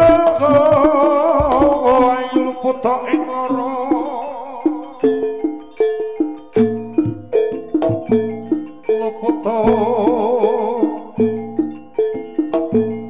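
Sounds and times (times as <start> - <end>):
metal pitched percussion pattern: 0.0 - 13.0
wavering melody with vibrato: 0.0 - 13.0.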